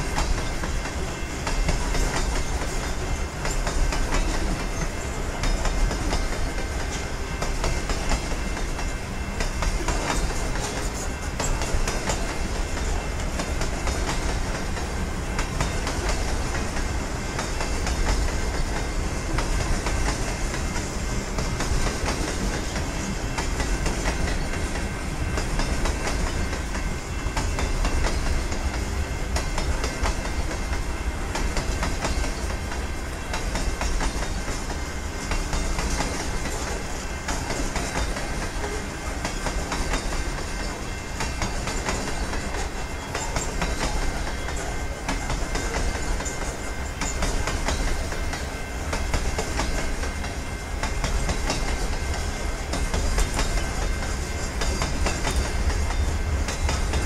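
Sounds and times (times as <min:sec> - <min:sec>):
train wheels rumbling on rail: 0:00.0 - 0:57.0
wheels clicking over rail joints: 0:00.0 - 0:57.0.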